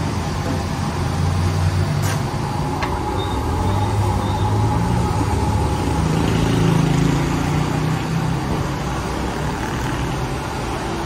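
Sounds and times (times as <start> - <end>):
vehicle engines in street: 0.0 - 11.0.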